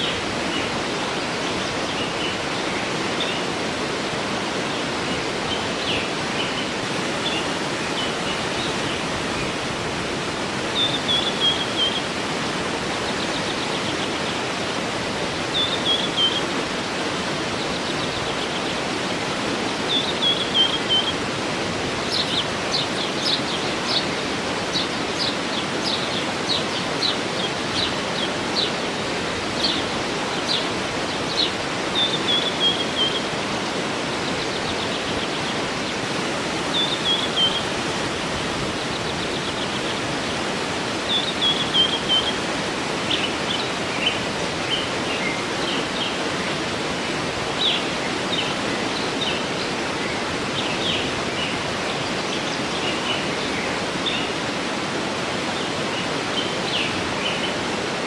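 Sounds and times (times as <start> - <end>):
songbirds singing: 0.0 - 58.0
waterfall rushing: 0.0 - 58.0.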